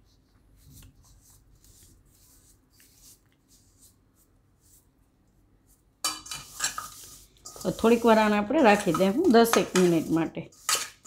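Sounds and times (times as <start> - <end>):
dough squishing by hand: 0.0 - 11.0.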